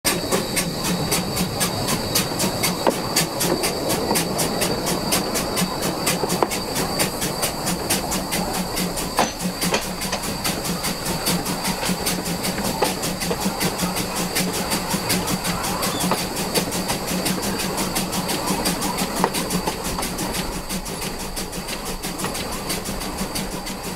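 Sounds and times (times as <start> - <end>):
steady steam hiss: 0.1 - 23.9
steam locomotive exhaust beats: 0.1 - 23.9.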